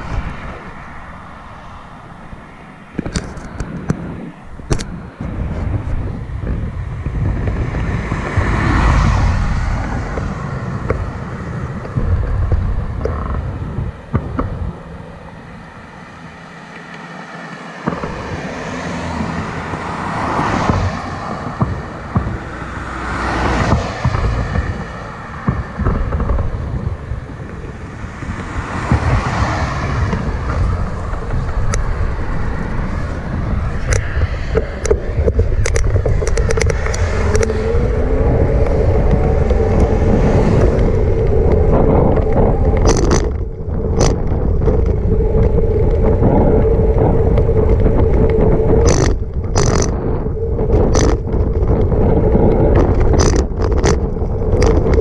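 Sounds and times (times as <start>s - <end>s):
cars passing: 0.0s - 55.0s
wind buffeting microphone: 0.0s - 55.0s.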